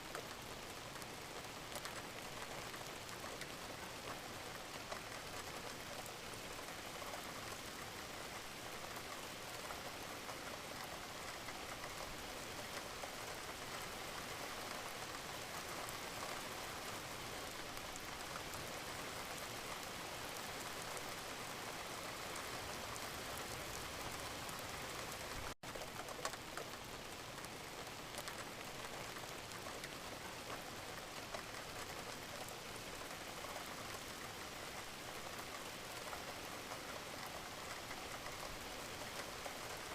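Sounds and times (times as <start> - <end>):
gentle rain pattering: 0.0 - 39.9.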